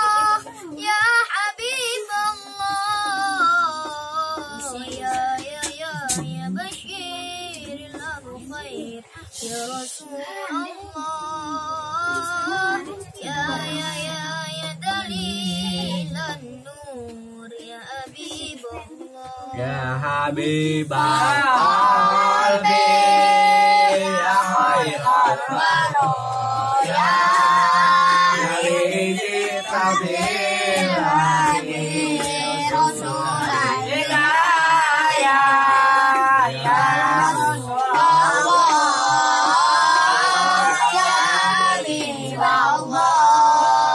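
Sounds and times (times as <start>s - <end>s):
child singing: 0.0s - 43.9s.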